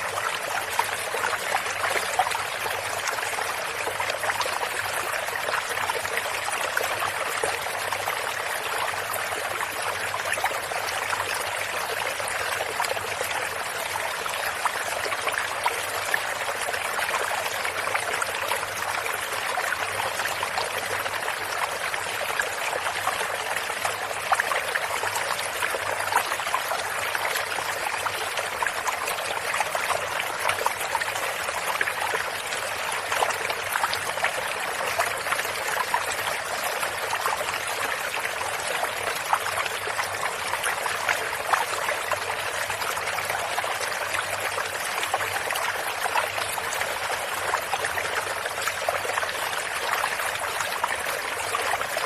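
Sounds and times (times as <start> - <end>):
shallow stream trickling: 0.0 - 52.0.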